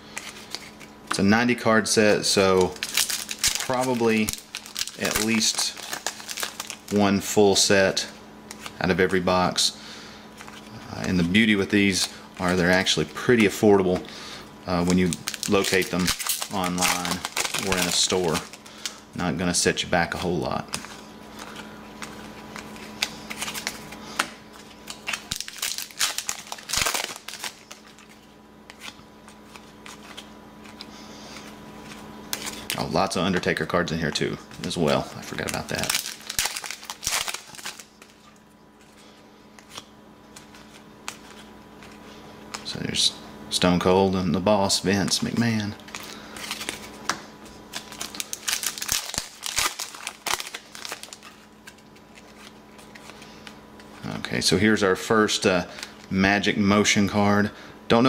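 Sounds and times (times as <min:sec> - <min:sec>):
foil wrapper crinkling: 0:02.2 - 0:09.7, 0:10.4 - 0:42.8, 0:44.6 - 0:54.2.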